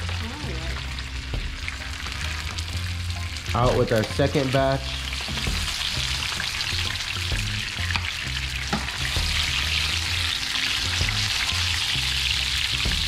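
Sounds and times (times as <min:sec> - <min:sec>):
background music with bass: 0:00.0 - 0:13.0
oil sizzling in frying pan: 0:00.0 - 0:13.0.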